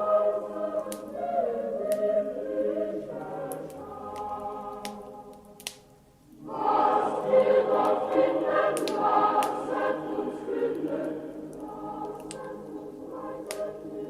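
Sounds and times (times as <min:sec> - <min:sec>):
choir singing: 0:00.0 - 0:05.6, 0:06.4 - 0:14.0
wood fire crackling: 0:00.7 - 0:01.3, 0:03.1 - 0:14.0.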